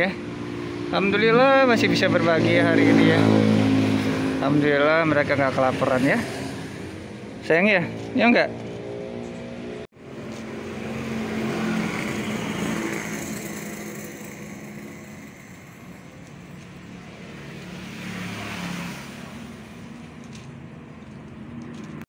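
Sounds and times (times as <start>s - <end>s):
vehicle engine passing: 0.0s - 22.0s.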